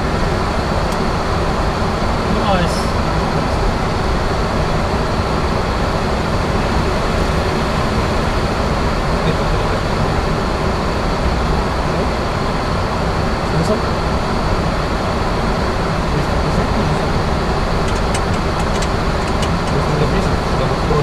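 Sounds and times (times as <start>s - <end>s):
airflow and engine rush: 0.0s - 21.0s
faint high whine: 0.0s - 21.0s.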